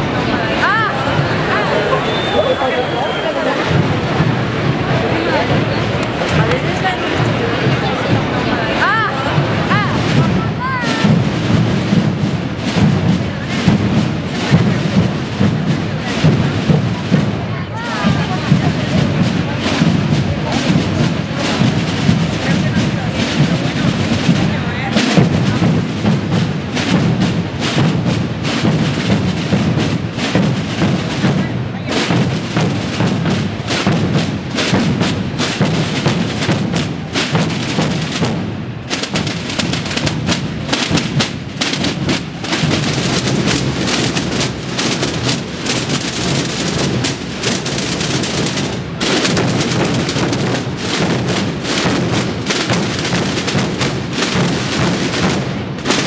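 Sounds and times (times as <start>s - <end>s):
drum corps beating: 0.0s - 56.0s.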